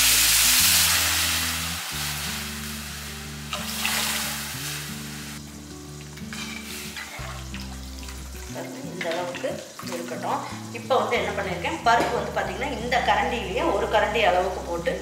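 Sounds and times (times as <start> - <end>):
food sizzling in hot oil: 0.0 - 15.0
music with low held notes: 0.1 - 15.0.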